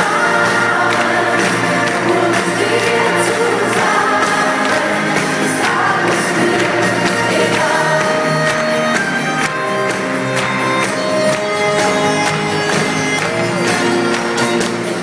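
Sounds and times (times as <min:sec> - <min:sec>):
live concert music with singing: 0:00.0 - 0:15.0.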